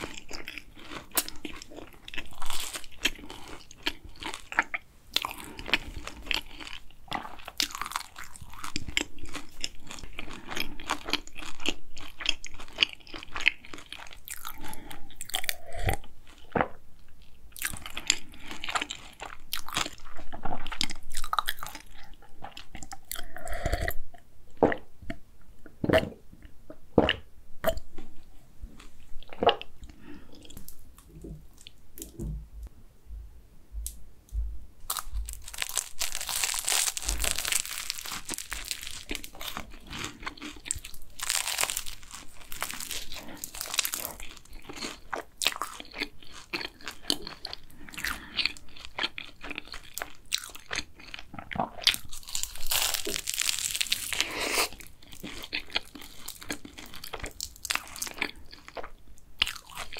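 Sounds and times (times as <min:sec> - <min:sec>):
pastry crunching while chewed: 0:00.0 - 0:16.8, 0:17.6 - 0:24.0, 0:34.9 - 0:59.9.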